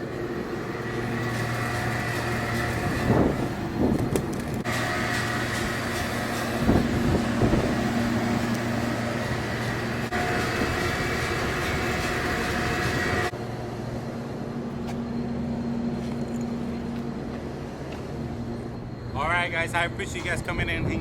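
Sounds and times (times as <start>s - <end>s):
mechanical running noise with low hum: 0.0s - 21.0s.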